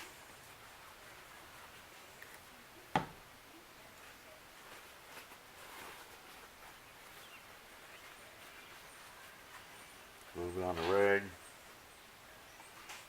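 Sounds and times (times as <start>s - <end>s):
faint rustling of hands: 0.0s - 2.6s, 3.6s - 11.8s.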